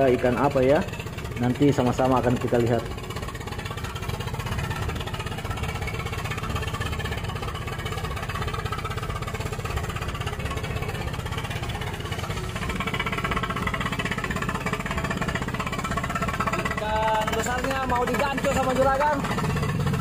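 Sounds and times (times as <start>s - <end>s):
boat engine rattling knock: 0.0s - 20.0s.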